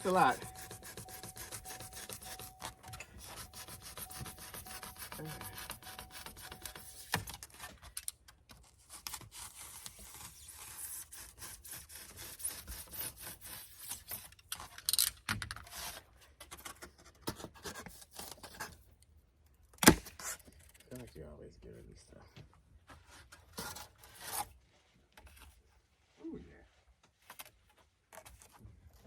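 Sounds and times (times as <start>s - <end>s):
scratchy rubbing and scraping: 0.0s - 14.9s, 15.6s - 18.9s, 22.9s - 29.0s.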